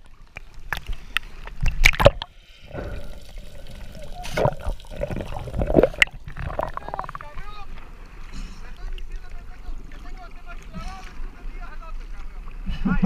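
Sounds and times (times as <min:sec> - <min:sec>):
underwater hum: 0:00.0 - 0:13.0
water splashing: 0:00.0 - 0:13.0.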